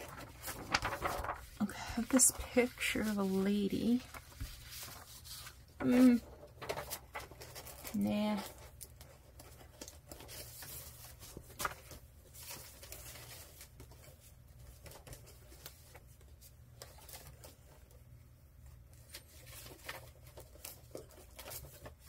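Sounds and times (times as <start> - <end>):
paper sheets rustling: 0.0 - 22.0.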